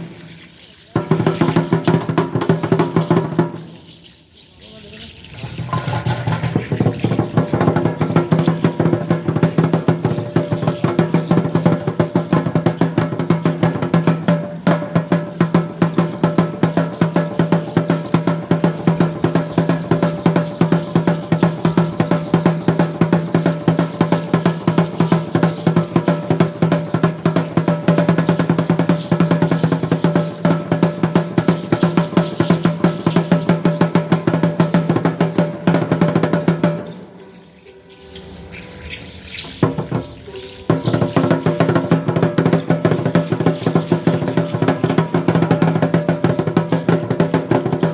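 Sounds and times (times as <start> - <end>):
fast drumming: 0.9 - 3.9, 5.4 - 37.3, 38.7 - 47.9.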